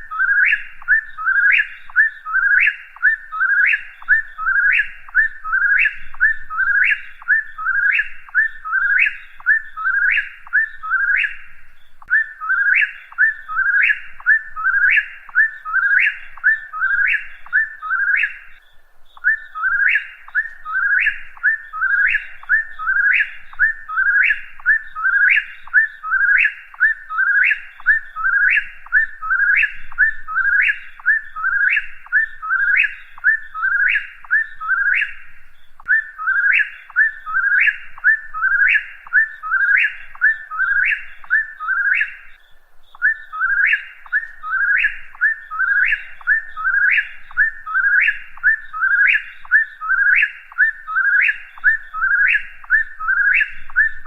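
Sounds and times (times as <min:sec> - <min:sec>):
bird whistling song: 0:00.0 - 0:54.0.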